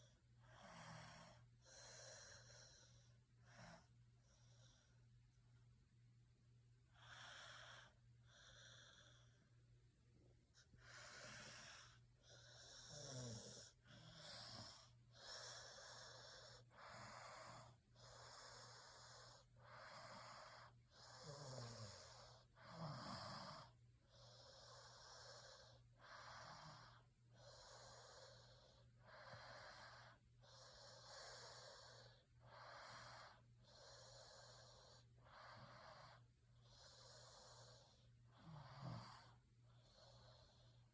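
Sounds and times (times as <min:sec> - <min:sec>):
wheezy snoring breaths: 0:00.0 - 0:05.1, 0:06.9 - 0:09.6, 0:10.5 - 0:40.9
faint low hum: 0:00.0 - 0:40.9.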